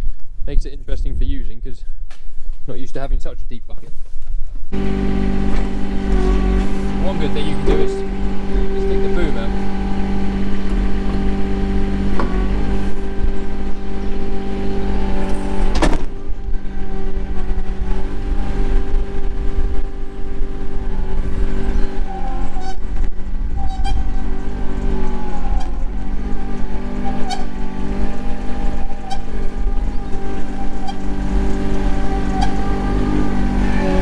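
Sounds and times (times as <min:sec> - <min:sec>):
loader engine running: 0:04.7 - 0:34.0.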